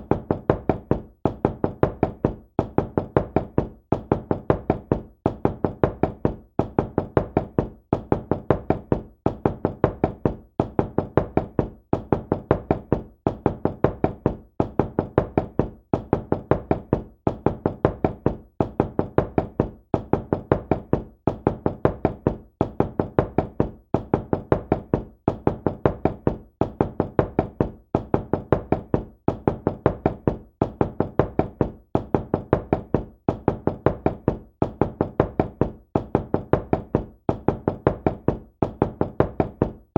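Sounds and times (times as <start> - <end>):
knocking on a door: 0.0 - 39.9.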